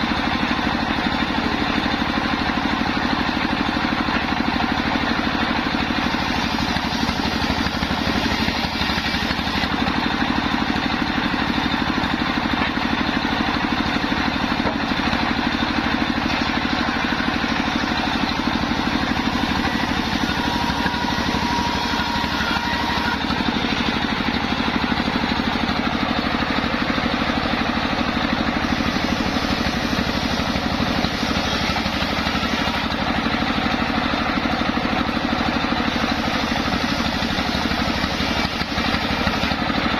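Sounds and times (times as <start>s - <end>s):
circular saw running: 0.0s - 39.9s.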